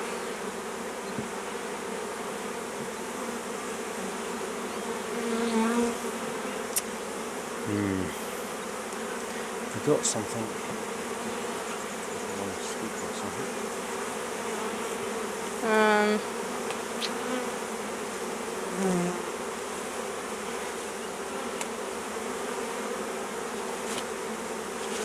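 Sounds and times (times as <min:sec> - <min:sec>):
honeybees buzzing: 0:00.0 - 0:25.0
single bee buzz: 0:00.0 - 0:25.0.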